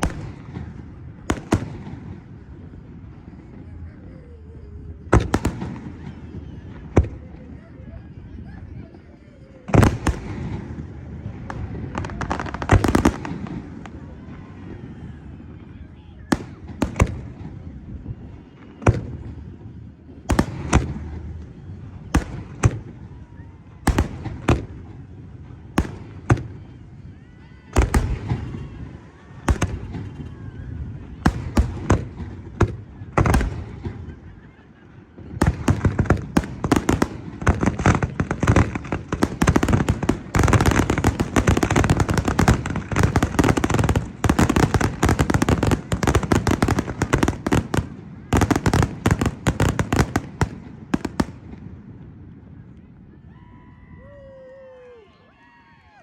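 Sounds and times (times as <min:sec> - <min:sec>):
distant firework bursts: 0:00.0 - 0:07.9, 0:08.9 - 0:52.5
firework barrage bangs and crackles: 0:00.0 - 0:53.3.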